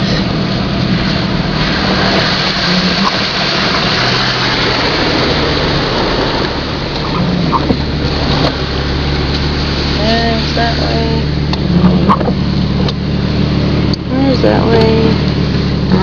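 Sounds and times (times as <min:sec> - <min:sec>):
tyres hissing through water: 0:00.0 - 0:13.9
low engine hum: 0:00.0 - 0:16.0.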